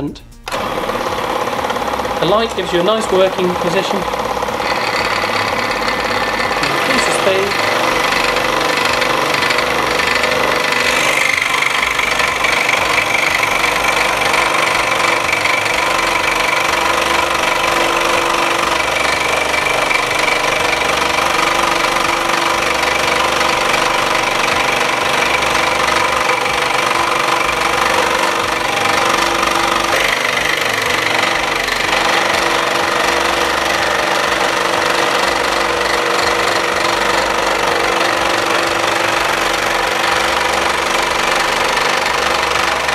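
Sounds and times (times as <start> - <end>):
scroll saw cutting wood: 0.5 - 42.9.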